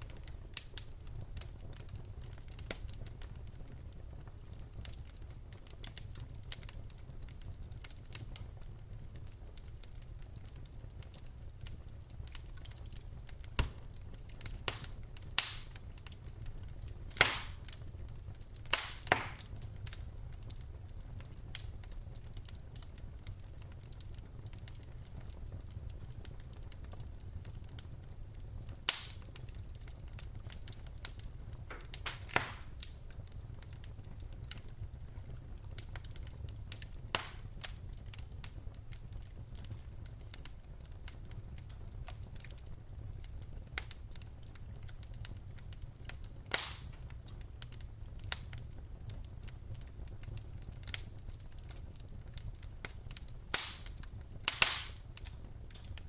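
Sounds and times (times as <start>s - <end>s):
low rumble of fire: 0.0s - 56.0s
wood fire crackles and pops: 0.0s - 56.0s.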